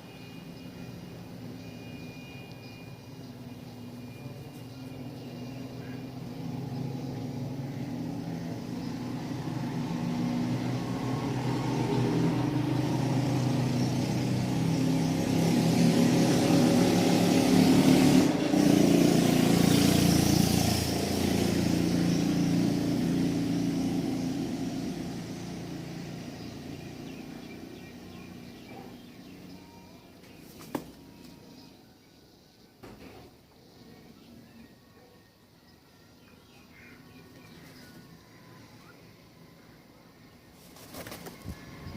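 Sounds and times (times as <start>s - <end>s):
passing engine humming: 0.0s - 35.1s, 35.9s - 41.9s.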